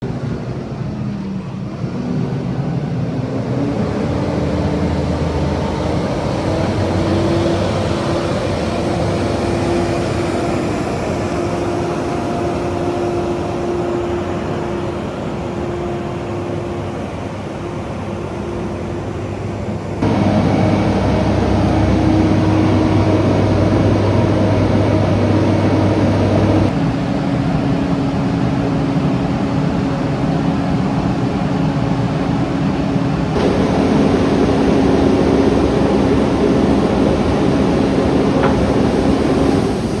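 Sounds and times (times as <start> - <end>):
diesel engine running: 1.4 - 28.7, 30.0 - 40.0.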